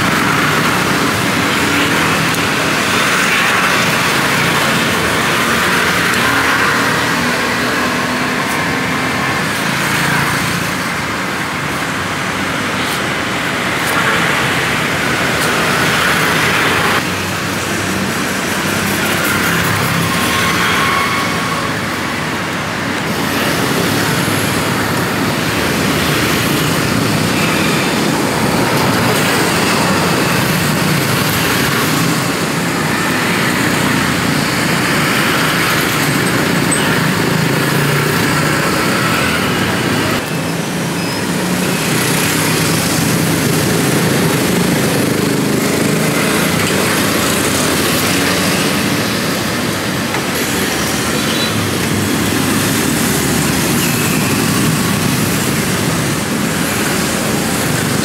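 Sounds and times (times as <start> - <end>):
road traffic rushing: 0.0 - 58.0.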